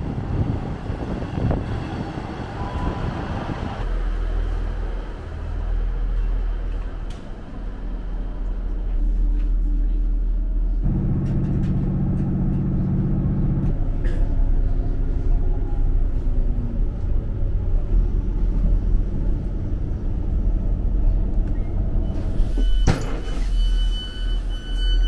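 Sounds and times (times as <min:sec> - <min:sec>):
train carriage rumbling on track: 0:00.0 - 0:25.0
train engine hum: 0:00.0 - 0:25.0.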